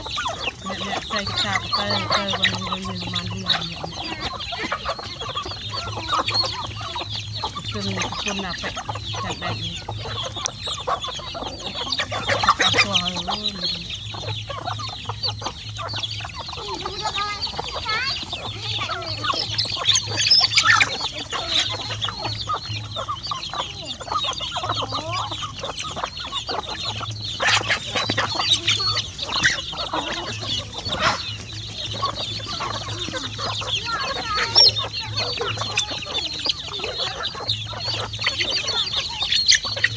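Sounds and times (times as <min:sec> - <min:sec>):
beaks pecking on ground: 0:00.0 - 0:39.9
chickens clucking: 0:00.0 - 0:39.9
chicks peeping: 0:00.0 - 0:39.9.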